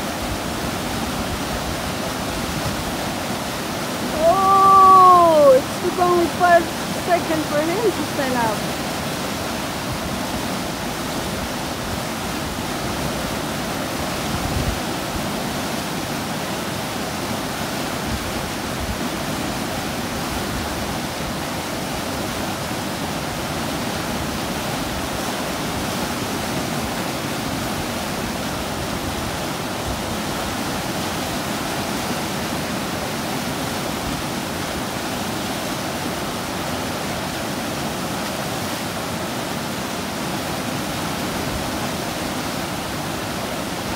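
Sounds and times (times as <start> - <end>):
whitewater rushing: 0.0 - 43.9.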